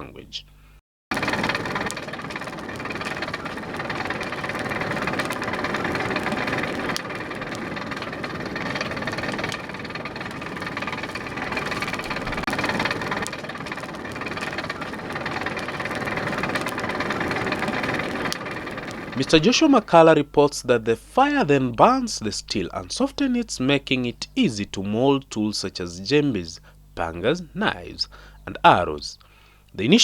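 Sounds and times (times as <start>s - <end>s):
forge blower fan whirring: 0.0s - 30.0s.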